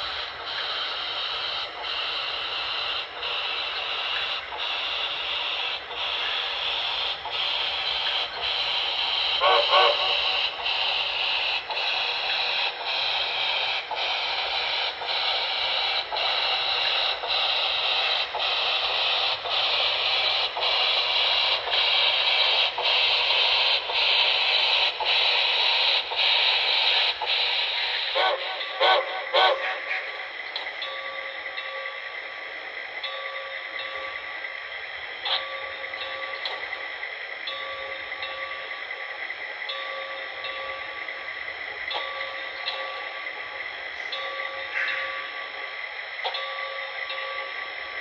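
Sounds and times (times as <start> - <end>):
model steam locomotive chuffing: 0.0 - 48.0.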